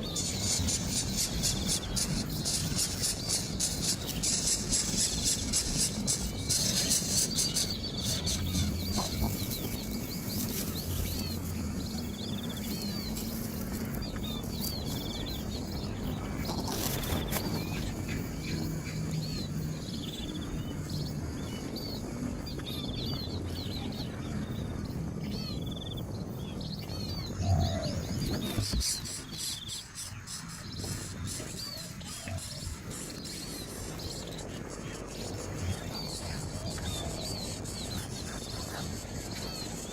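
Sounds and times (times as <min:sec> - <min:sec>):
low rumbling background noise: 0:00.0 - 0:39.9
small bird chirping: 0:00.0 - 0:39.9.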